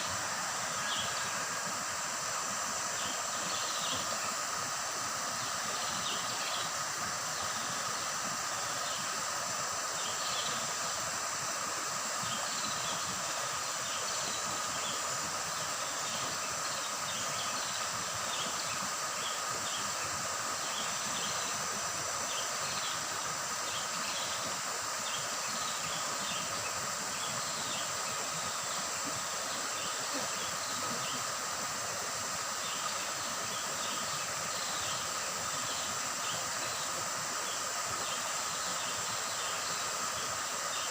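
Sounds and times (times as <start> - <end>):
insect drone: 0.0 - 40.9
river babbling over stones: 0.0 - 40.9.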